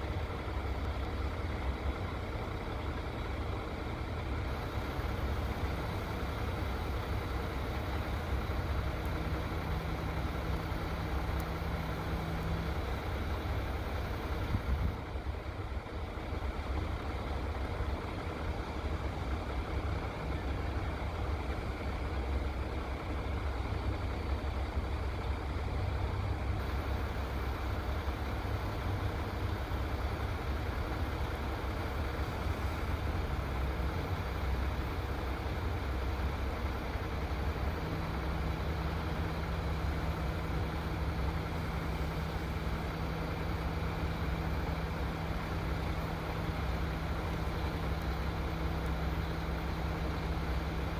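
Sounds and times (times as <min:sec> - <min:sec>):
crane engine idling: 0:00.0 - 0:50.9.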